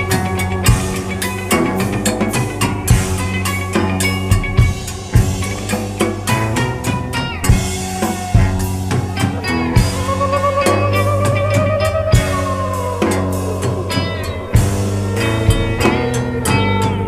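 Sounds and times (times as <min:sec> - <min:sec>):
band music: 0:00.0 - 0:17.0
bass drum and snare beat: 0:00.0 - 0:17.0.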